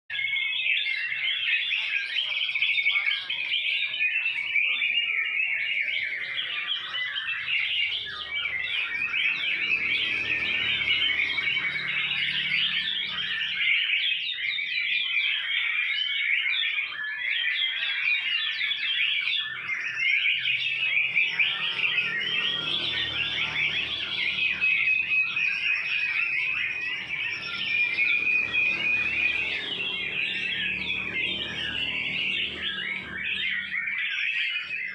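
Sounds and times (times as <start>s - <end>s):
songbird singing whistled trills: 0.1s - 34.9s.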